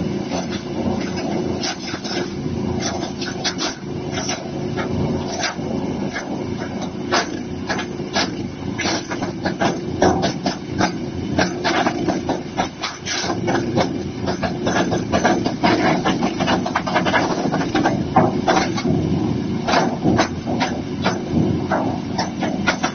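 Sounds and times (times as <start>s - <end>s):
wood chipper engine drone: 0.0s - 22.9s.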